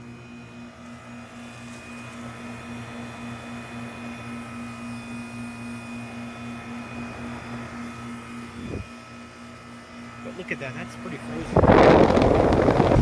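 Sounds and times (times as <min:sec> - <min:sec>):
heat pump unit humming: 0:00.0 - 0:13.0.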